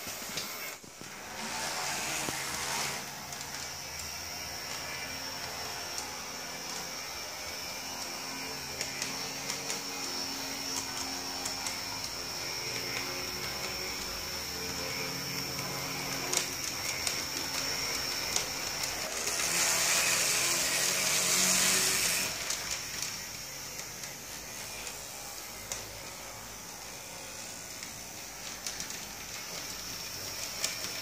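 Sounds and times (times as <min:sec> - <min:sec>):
small electric motor whining: 0:00.0 - 0:31.0.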